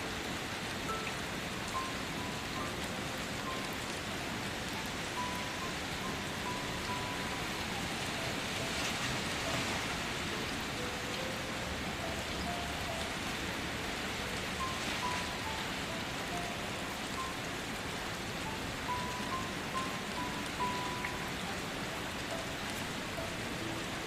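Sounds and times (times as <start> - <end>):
slow melody of held notes: 0.0 - 24.0
steady rain falling: 0.0 - 24.0.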